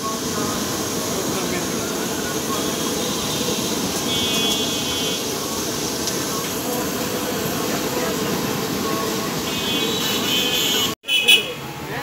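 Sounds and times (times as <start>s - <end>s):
oil sizzling: 0.0s - 11.0s
street noise: 0.0s - 12.0s
voices: 0.0s - 12.0s.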